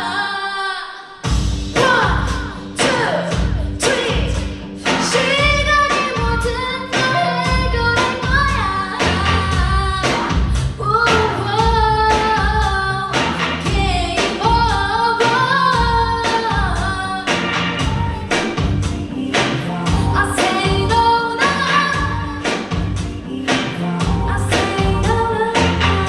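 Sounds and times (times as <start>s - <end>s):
women singing pop song: 0.0s - 26.0s
backing track with heavy bass: 1.2s - 26.0s.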